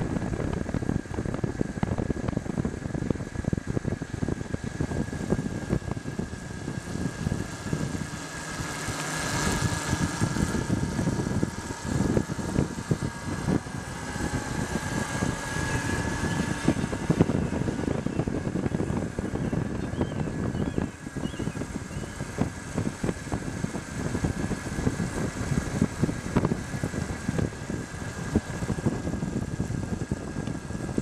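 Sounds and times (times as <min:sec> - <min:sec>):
electric motor whine: 0:00.0 - 0:31.0
lower whine: 0:00.0 - 0:31.0
wind buffeting microphone: 0:00.0 - 0:31.0.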